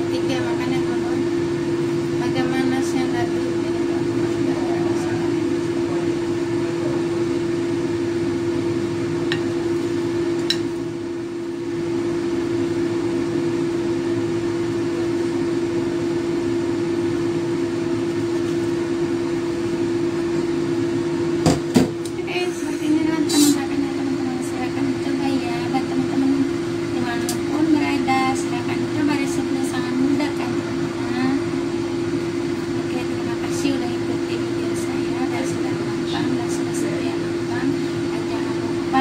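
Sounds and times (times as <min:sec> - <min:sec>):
electric fan motor hum: 0:00.0 - 0:39.0.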